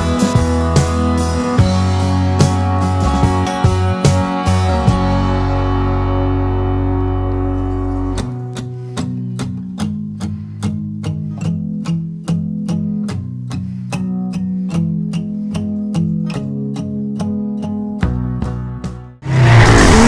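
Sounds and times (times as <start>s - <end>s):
picked guitar notes: 0.0s - 20.0s.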